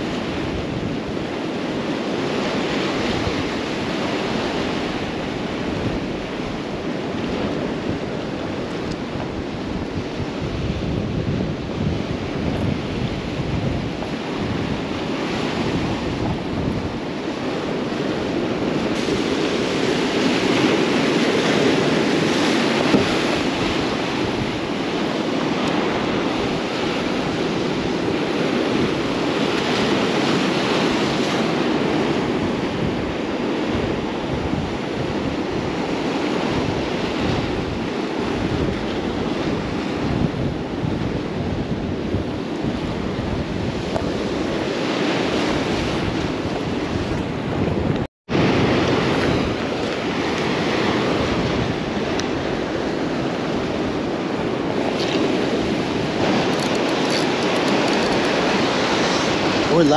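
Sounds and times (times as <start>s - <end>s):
wind buffeting microphone: 0.0s - 59.9s
surf breaking on rocks: 1.8s - 32.8s, 42.6s - 59.9s.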